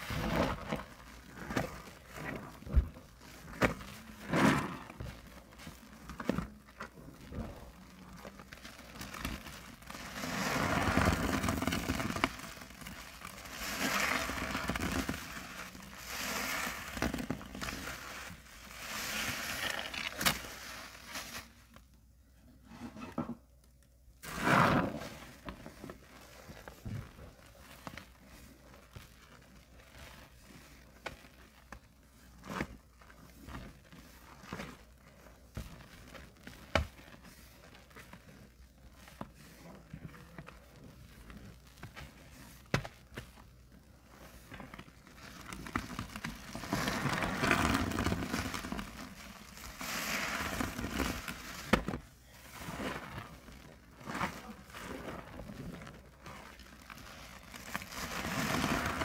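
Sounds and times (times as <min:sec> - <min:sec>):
sponge squelching in water: 0:00.0 - 0:21.8, 0:24.2 - 0:59.0.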